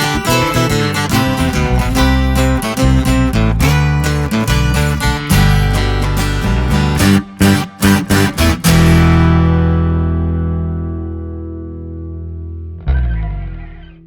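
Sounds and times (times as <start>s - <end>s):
strummed guitar chords: 0.0s - 14.0s.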